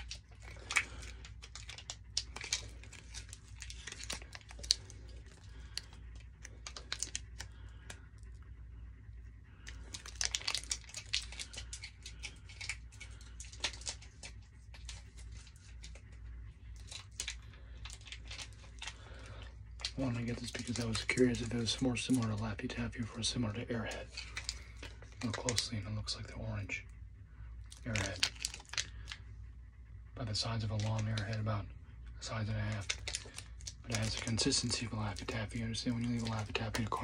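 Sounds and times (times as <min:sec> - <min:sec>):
candy wrapper crinkling: 0:00.0 - 0:08.4, 0:09.6 - 0:25.8, 0:27.6 - 0:29.3, 0:30.4 - 0:31.5, 0:32.2 - 0:37.0.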